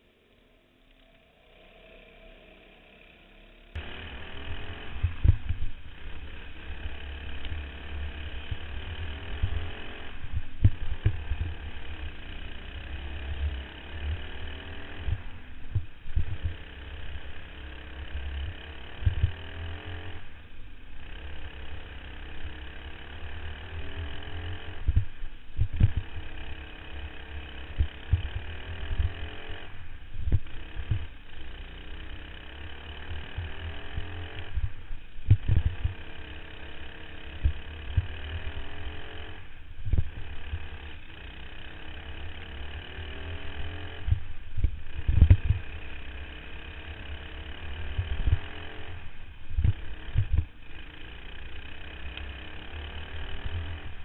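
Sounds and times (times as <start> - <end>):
racing kart engine: 0.0 - 54.0
low rumble with thumps: 1.0 - 54.0.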